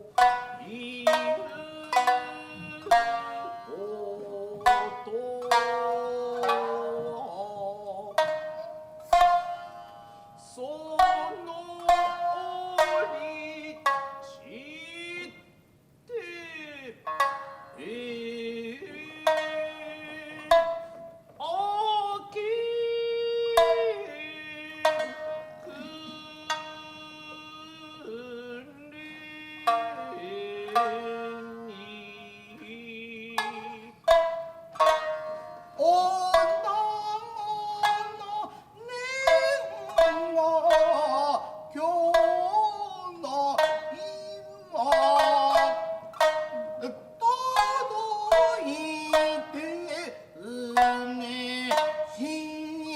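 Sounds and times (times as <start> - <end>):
person singing long notes: 0.0 - 15.5, 16.1 - 52.9
plucked shamisen phrases: 0.0 - 52.9.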